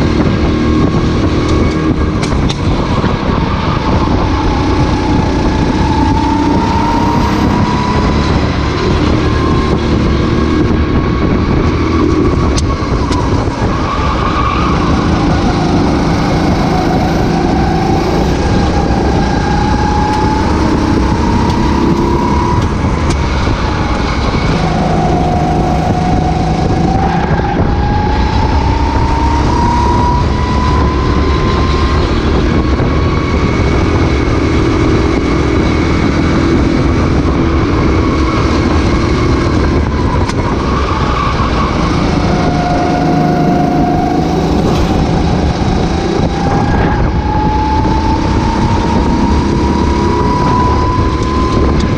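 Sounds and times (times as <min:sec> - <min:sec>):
racing kart engine revving: 0:00.0 - 0:51.9.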